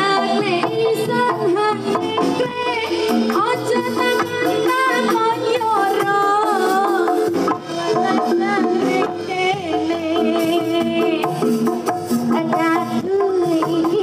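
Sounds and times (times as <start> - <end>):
drums: 0.0 - 14.0
rattling percussion: 0.0 - 14.0.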